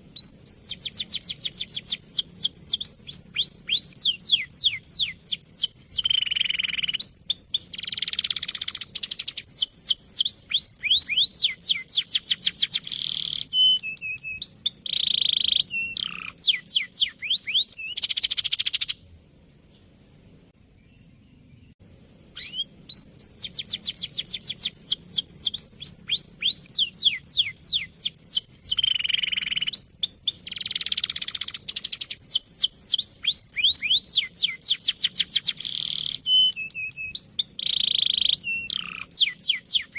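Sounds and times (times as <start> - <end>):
canary singing trills: 0.0 - 19.9, 20.6 - 39.9.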